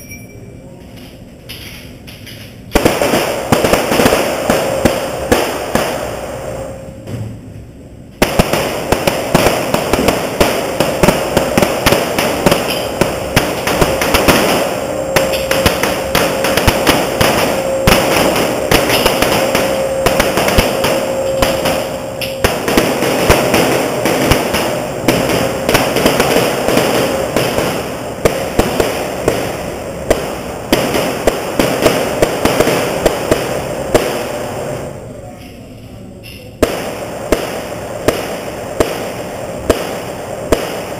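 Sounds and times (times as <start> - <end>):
rapid pistol gunfire echoing: 2.7 - 6.4, 8.2 - 34.6, 36.6 - 40.9.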